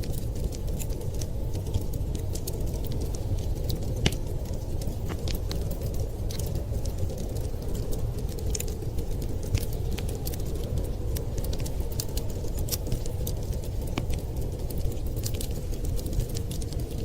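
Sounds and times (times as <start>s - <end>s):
storm wind rumbling: 0.0s - 17.0s
wood fire crackling and popping: 0.0s - 17.0s.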